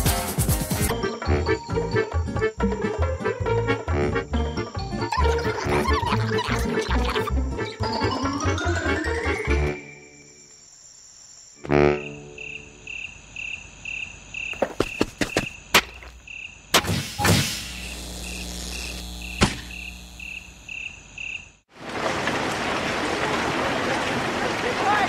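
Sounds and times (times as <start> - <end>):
crickets chirping: 0.9 - 21.7.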